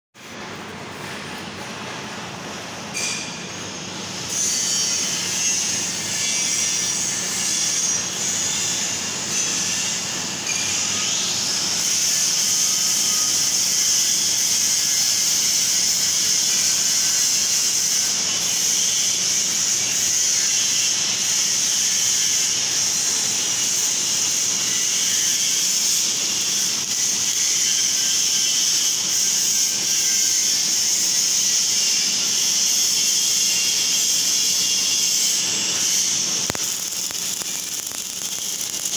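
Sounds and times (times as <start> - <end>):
welding arc sizzling hiss: 0.2 - 38.9.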